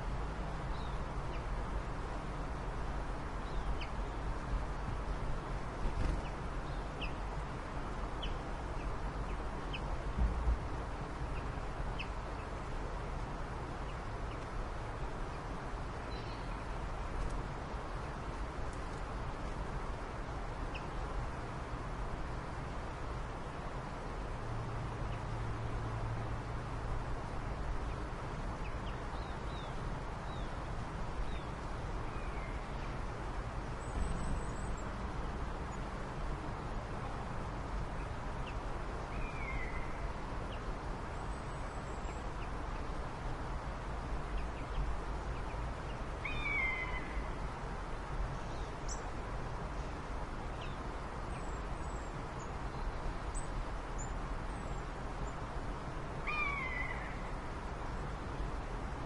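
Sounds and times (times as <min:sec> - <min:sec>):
steady rumble and hiss: 0:00.0 - 0:59.0.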